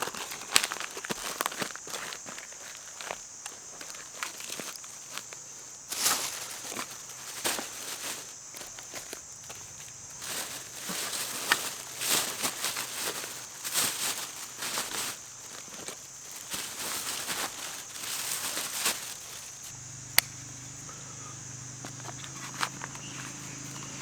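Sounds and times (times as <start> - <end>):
footsteps crunching on ground: 0.0 - 24.0.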